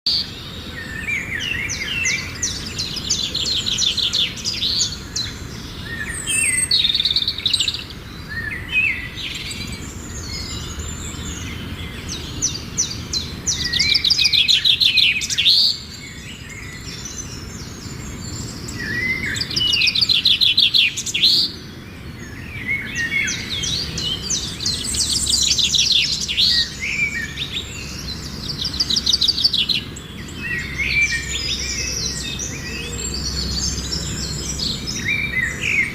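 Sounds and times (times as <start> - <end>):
bird trills and chirps: 0.1 - 35.9.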